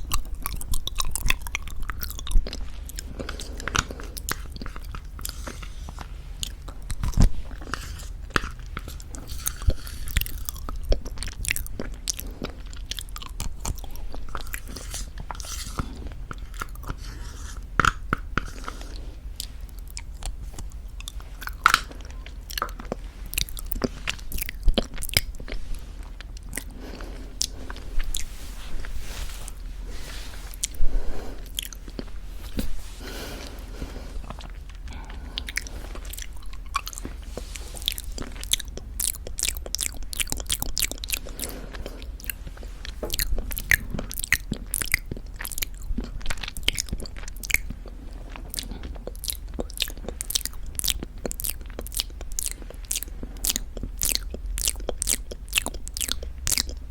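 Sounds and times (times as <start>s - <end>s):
mouth eating sticky food: 0.0s - 56.9s.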